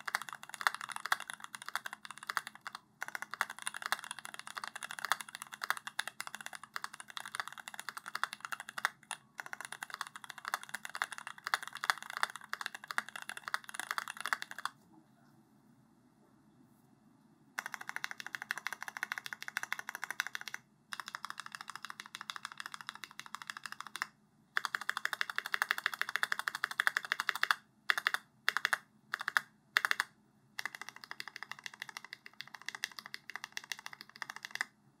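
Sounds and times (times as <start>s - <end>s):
mechanical keyboard typing: 0.0s - 14.8s, 17.6s - 34.8s.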